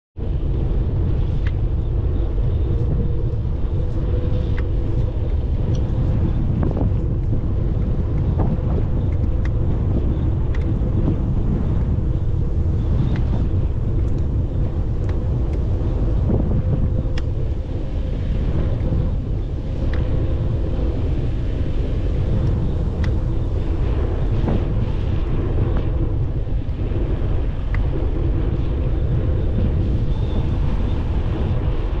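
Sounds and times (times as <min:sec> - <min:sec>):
wind buffeting microphone: 0:00.2 - 0:32.0.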